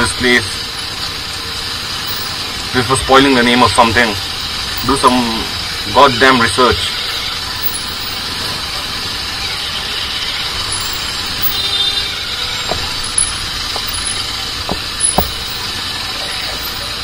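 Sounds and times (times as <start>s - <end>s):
motorcycle engine running: 0.0s - 6.0s, 6.9s - 17.0s
wind and street noise: 0.0s - 17.0s.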